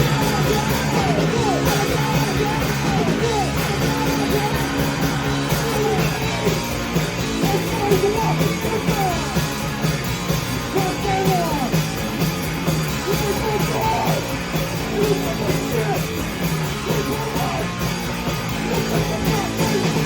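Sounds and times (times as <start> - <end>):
live rock band playing: 0.0 - 20.0
yelled vocals: 0.0 - 20.0.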